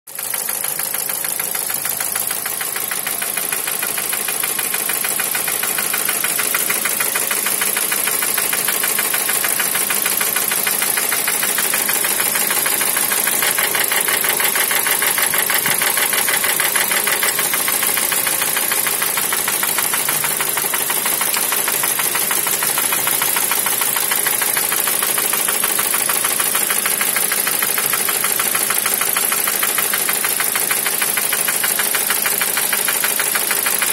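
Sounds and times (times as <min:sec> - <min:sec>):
car engine knocking: 0:00.1 - 0:33.9.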